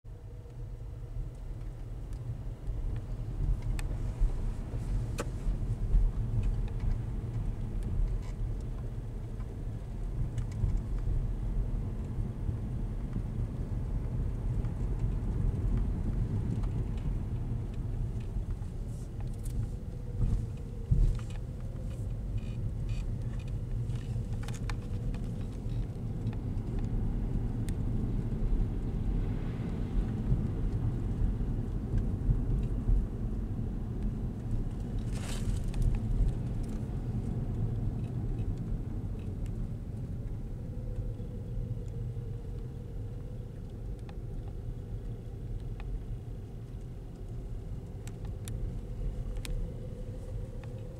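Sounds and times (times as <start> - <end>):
car driving on wet road: 0.5 - 50.9.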